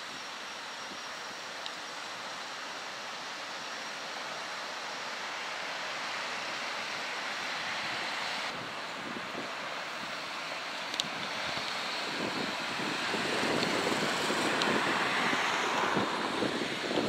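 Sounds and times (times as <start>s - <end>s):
distant road traffic hiss: 0.0s - 17.0s.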